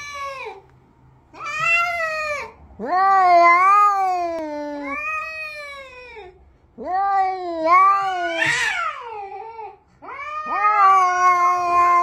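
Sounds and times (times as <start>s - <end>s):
cat yowling: 1.4s - 12.0s
harsh rough cat cry: 1.4s - 12.0s.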